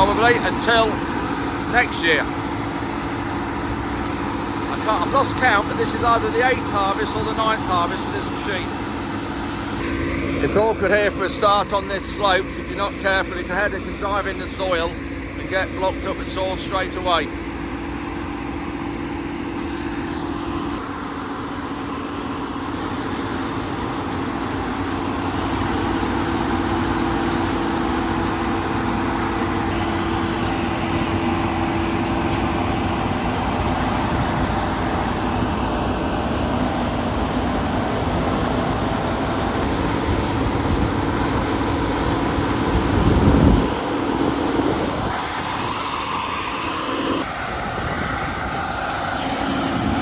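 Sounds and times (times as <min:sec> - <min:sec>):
combine harvester running: 0:00.0 - 0:50.0.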